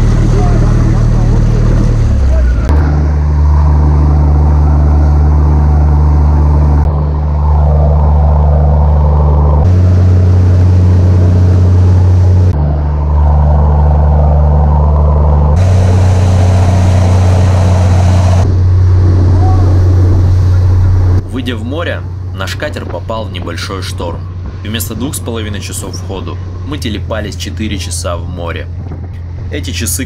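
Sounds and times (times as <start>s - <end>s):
wake rushing: 0.0s - 29.6s
motor boat engine drone: 0.0s - 30.0s
wind: 0.0s - 30.0s.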